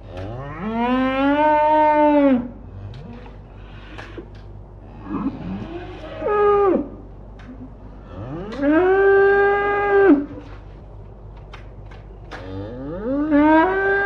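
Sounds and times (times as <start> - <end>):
cows mooing: 0.0 - 4.3, 4.9 - 10.6, 12.4 - 14.0.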